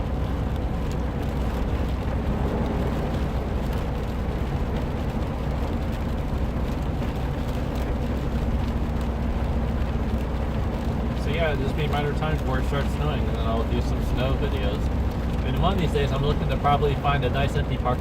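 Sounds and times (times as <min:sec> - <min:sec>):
engine and road drone: 0:00.0 - 0:18.0
tyre and rain hiss: 0:00.4 - 0:17.8.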